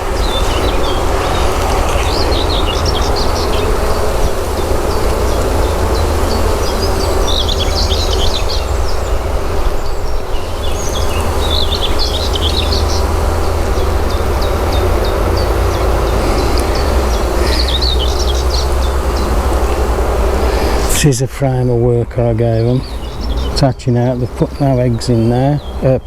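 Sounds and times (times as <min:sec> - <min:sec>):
constant low rumble: 0:00.0 - 0:26.0
honeybees humming: 0:00.0 - 0:26.0
songbird twittering: 0:00.0 - 0:26.0.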